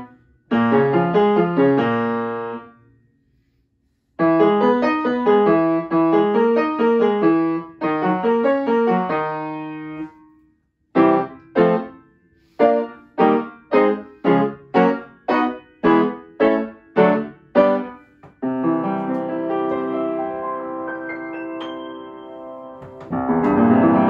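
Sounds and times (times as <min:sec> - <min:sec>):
upright piano playing: 0:00.0 - 0:02.7, 0:04.2 - 0:10.1, 0:11.0 - 0:12.0, 0:12.6 - 0:24.0.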